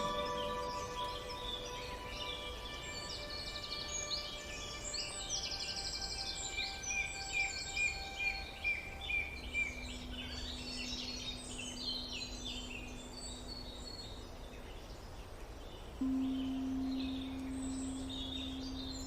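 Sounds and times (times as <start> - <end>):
faint low humming tone: 0.0 - 4.6, 5.2 - 19.0
low background hiss: 0.0 - 19.0
songbirds chirping and trilling: 0.0 - 19.0.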